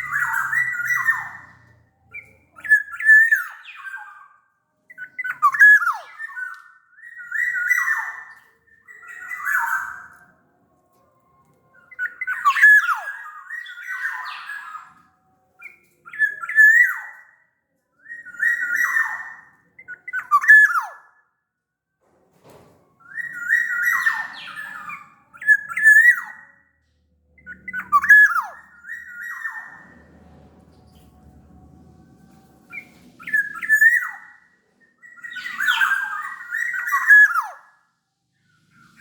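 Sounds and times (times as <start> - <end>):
bird singing fluty whistles: 0.0 - 10.4, 11.7 - 17.4, 18.0 - 21.2, 23.0 - 31.8, 32.4 - 37.8.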